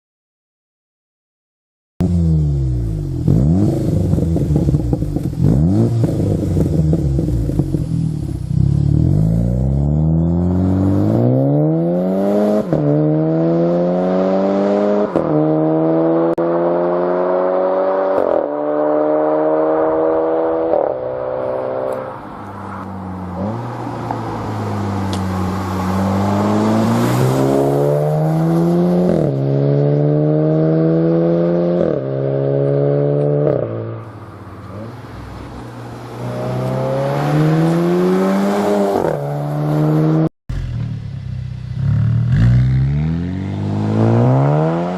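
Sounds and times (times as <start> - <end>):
car engine revving and accelerating: 2.0 - 41.0, 41.6 - 44.9.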